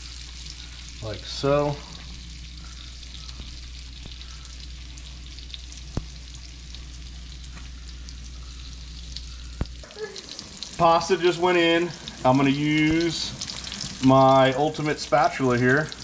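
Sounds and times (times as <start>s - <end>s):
fish fillets sizzling in a pan: 0.0s - 16.0s.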